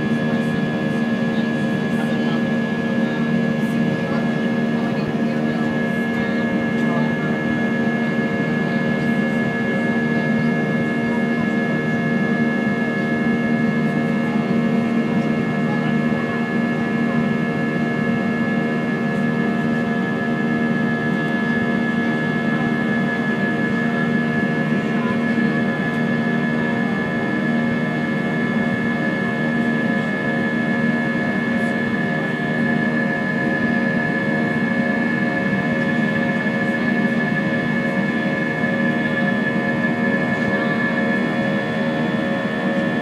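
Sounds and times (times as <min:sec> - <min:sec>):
high steady engine whine: 0:00.0 - 0:43.0
jet engine drone in cabin: 0:00.0 - 0:43.0.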